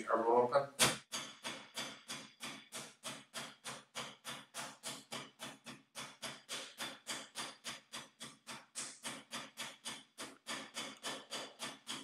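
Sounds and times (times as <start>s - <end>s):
meat mallet pounding: 0.8s - 12.0s.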